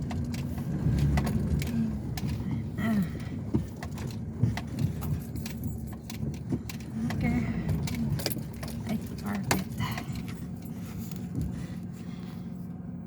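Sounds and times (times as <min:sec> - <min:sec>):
clicks and rattles: 0:00.0 - 0:11.5
truck engine rumbling: 0:00.0 - 0:13.0.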